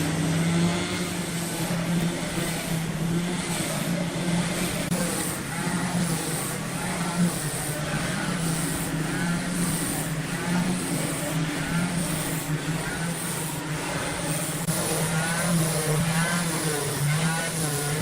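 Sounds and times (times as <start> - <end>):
faint voices: 0.0 - 18.0.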